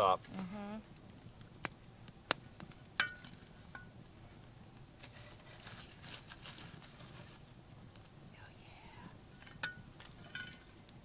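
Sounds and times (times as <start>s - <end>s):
coals scraping and crackling: 0.0s - 11.0s.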